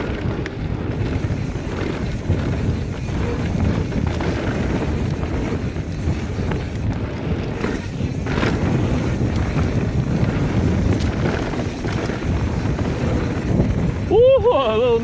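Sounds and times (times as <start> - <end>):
tyres rumbling on dirt: 0.0 - 15.0
wind rushing over microphone: 0.0 - 15.0.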